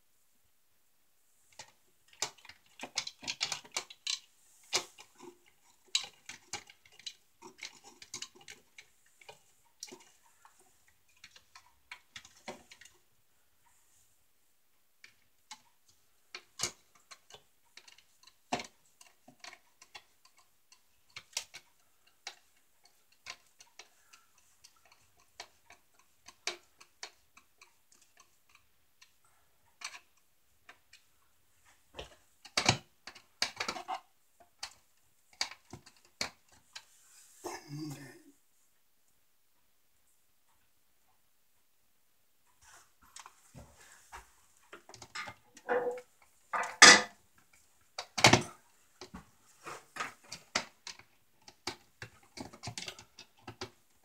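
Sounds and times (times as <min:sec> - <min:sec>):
small clicks of plastic and screws: 0:01.5 - 0:13.0, 0:15.0 - 0:37.0, 0:42.5 - 0:54.0.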